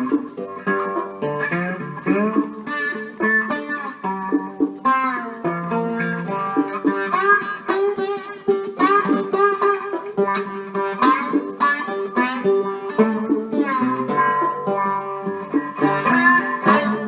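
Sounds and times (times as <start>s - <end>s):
plucked guitar melody with slides: 0.0s - 17.0s.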